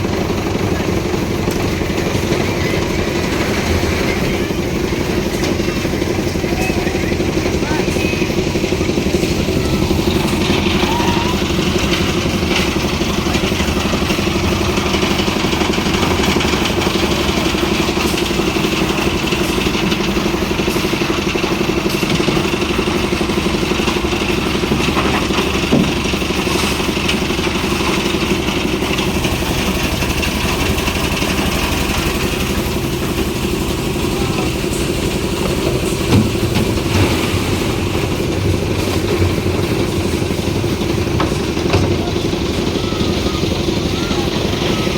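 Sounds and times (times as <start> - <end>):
machinery engine droning: 0.0 - 44.9.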